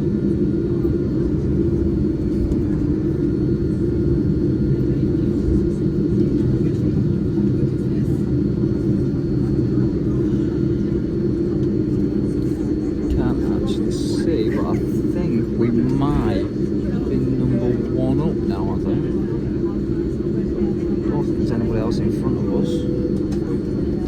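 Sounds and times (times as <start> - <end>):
faint steady whine: 0.0 - 24.0
low rumble inside aircraft cabin: 0.0 - 24.0.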